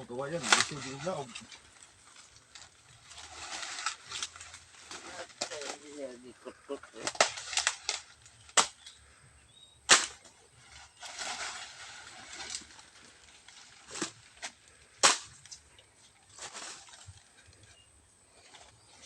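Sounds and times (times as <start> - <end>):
leaves rustling: 0.0 - 9.1, 9.9 - 19.0
tree branches cracking: 0.2 - 6.1, 6.9 - 9.1, 9.9 - 17.8.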